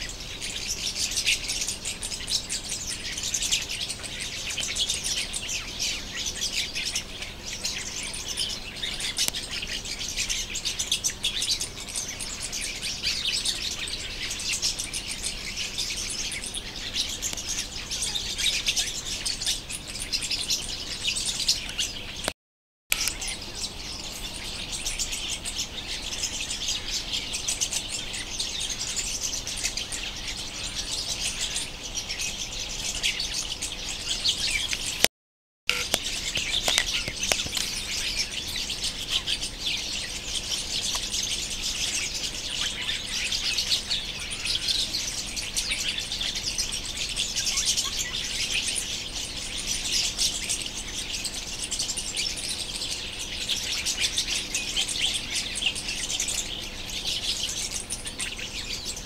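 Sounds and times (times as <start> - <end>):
small birds chirping: 0.0 - 22.3, 22.9 - 35.1, 35.7 - 59.0.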